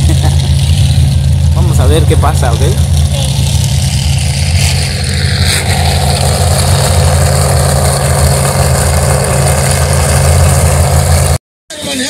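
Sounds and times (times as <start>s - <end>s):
car engines droning and revving: 0.0s - 11.4s.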